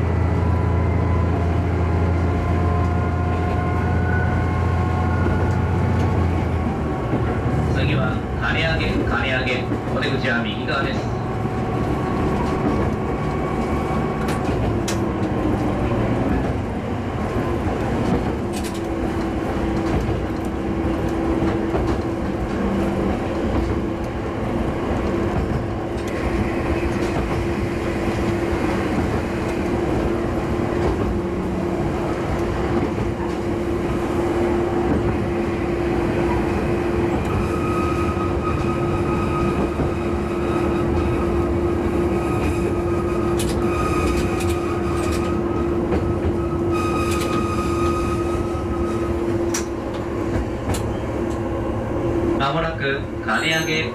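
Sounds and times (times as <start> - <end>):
diesel railcar engine: 0.0 - 53.9.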